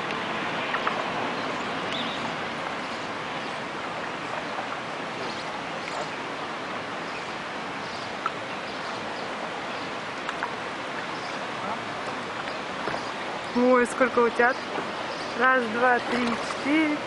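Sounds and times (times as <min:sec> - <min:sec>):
water splashing and churning: 0:00.0 - 0:17.0.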